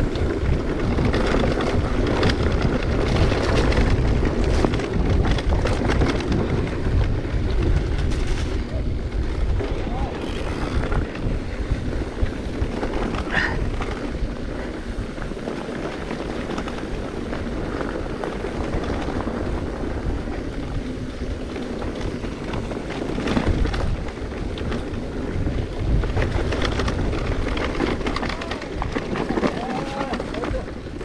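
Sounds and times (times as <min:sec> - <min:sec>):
bike knocks and rattles: 0:00.0 - 0:31.0
wind buffeting microphone: 0:00.0 - 0:31.0.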